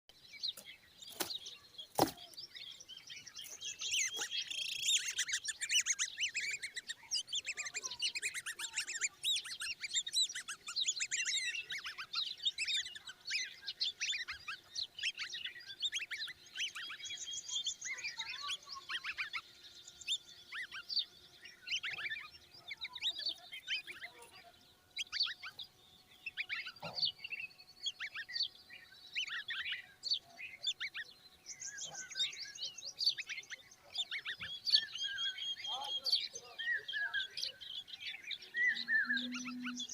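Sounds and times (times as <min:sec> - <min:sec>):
chicks chirping: 0:00.4 - 0:39.9.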